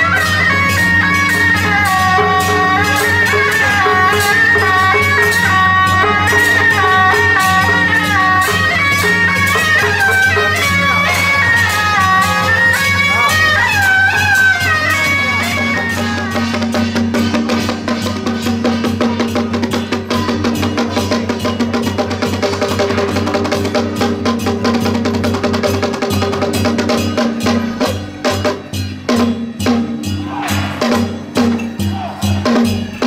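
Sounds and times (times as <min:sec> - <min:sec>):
drums and cymbals rolling: 0:00.0 - 0:33.0.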